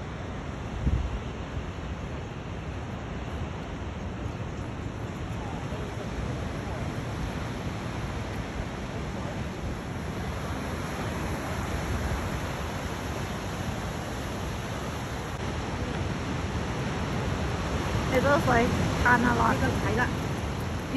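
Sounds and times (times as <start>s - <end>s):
wind buffeting microphone: 0.5s - 20.9s.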